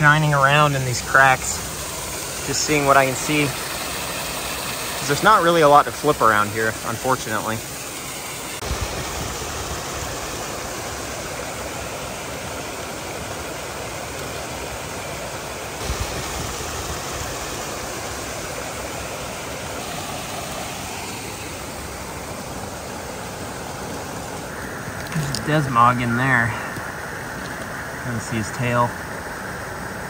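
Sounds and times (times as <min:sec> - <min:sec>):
waterfall over rocks: 0:00.0 - 0:30.0.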